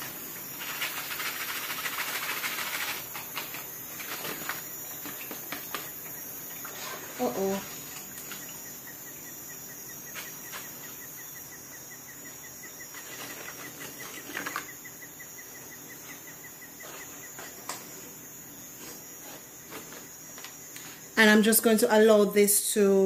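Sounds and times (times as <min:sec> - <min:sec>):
faint regular chirping: 0:02.5 - 0:21.3.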